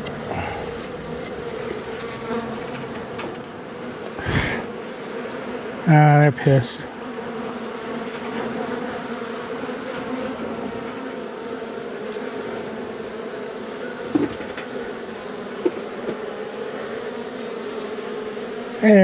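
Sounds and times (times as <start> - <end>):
bees buzzing loudly: 0.0 - 19.0.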